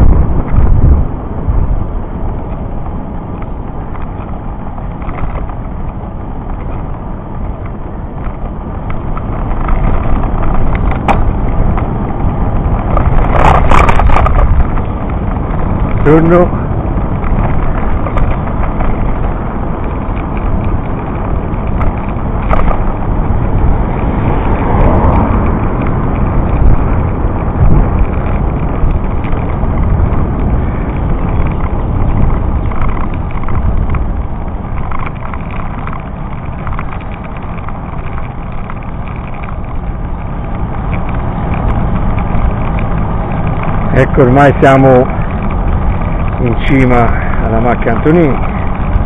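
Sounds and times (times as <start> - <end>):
bicycle road rumble: 0.0 - 49.0
wind buffeting microphone: 0.0 - 49.0.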